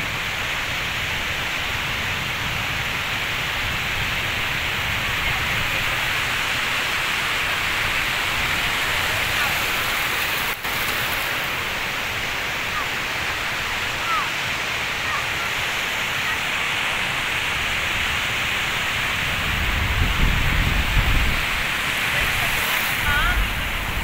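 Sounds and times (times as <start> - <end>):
waves washing up beach: 0.0 - 24.0.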